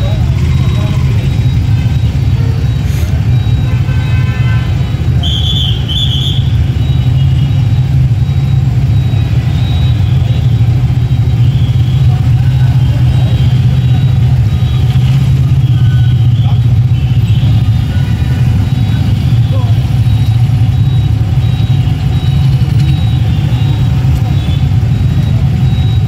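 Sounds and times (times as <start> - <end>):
idling scooter and car engines: 0.0 - 26.0
short high beeps: 0.0 - 26.0.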